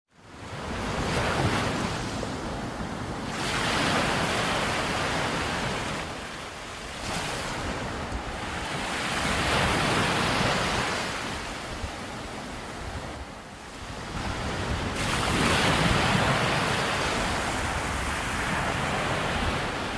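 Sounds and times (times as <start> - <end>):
waves breaking on a beach: 0.1 - 19.9
wind rumbling on microphone: 0.5 - 19.9.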